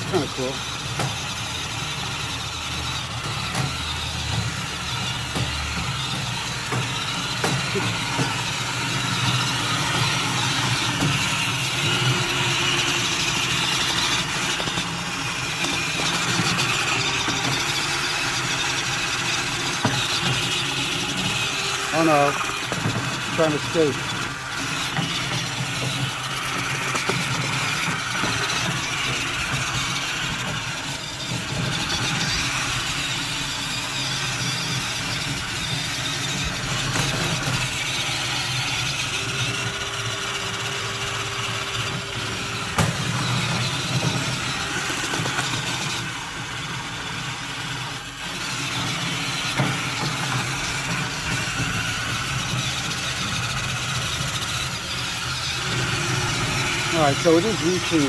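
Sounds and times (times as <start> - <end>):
brushes scraping grill bars: 0.0 - 40.2, 41.3 - 58.0
electric motors whirring: 0.0 - 58.0.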